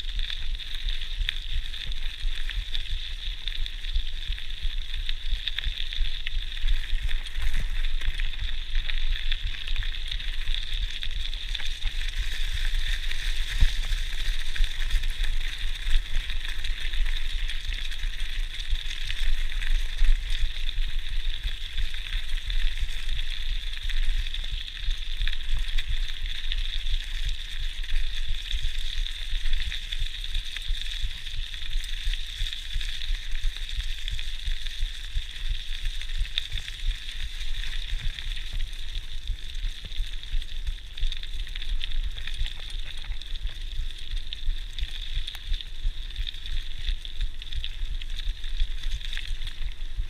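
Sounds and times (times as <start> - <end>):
bike tyres on gravel and leaves: 0.0 - 50.0.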